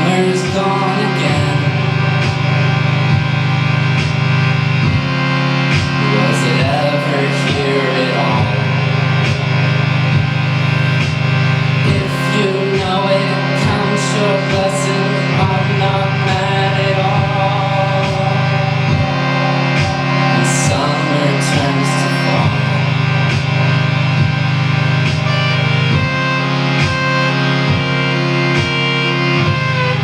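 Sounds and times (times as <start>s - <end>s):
rock band playing: 0.0s - 30.0s.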